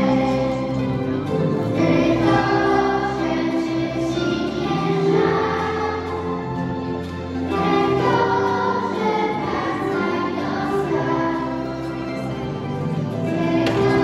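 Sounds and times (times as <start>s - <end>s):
girls singing in unison: 0.0s - 0.9s, 1.7s - 6.4s, 7.5s - 12.5s, 13.2s - 14.0s.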